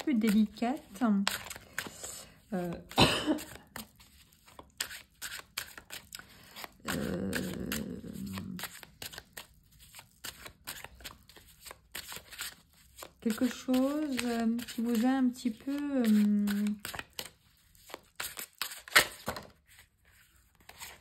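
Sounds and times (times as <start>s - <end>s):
cards being shuffled: 0.0s - 21.0s
loud card rustle: 0.0s - 21.0s.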